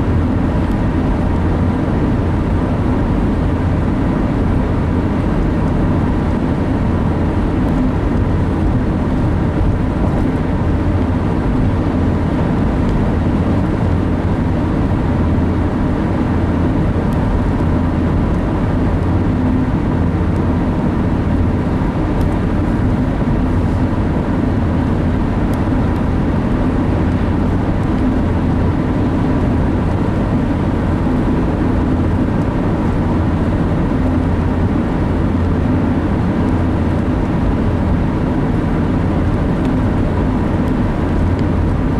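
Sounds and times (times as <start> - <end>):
vehicle road and engine noise: 0.0 - 41.9.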